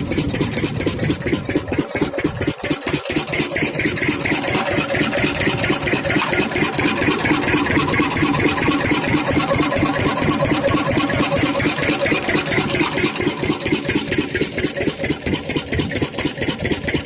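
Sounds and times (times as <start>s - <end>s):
diesel engine running pump: 0.0s - 17.0s.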